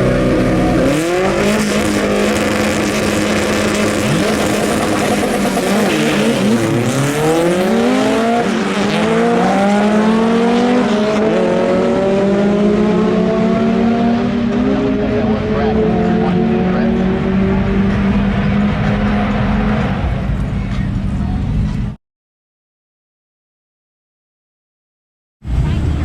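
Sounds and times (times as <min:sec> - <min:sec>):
drag racing car engine revving: 0:00.0 - 0:21.9
engine droning: 0:00.0 - 0:22.0.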